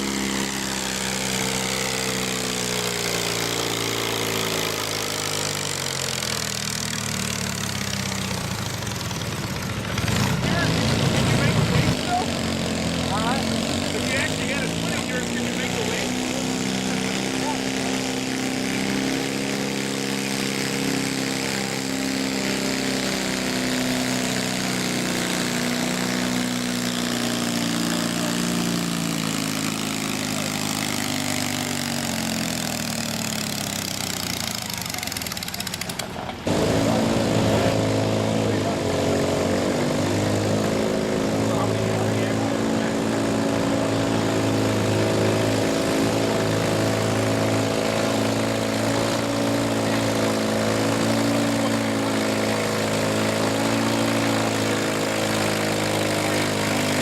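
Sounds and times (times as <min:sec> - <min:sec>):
engine running at higher pitch: 0:00.0 - 0:57.0
lawn mower engine bogging down: 0:00.0 - 0:57.0.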